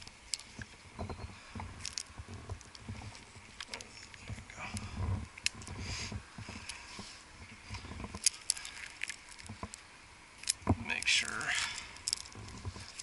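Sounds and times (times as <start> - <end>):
carabiners clicking and clinking: 0.0 - 9.8, 10.4 - 13.0
rope and boughs rustling: 0.0 - 13.0.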